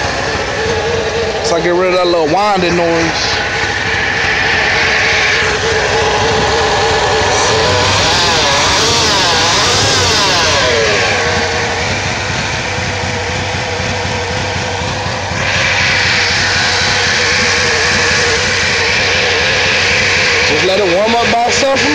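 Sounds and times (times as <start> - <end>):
car engine revving: 0.0 - 21.9
engine whining: 0.0 - 21.9.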